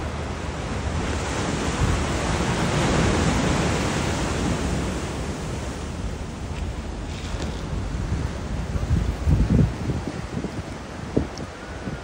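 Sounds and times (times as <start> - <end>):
waves breaking on beach: 0.0 - 12.0
wind rumbling on microphone: 0.0 - 12.0.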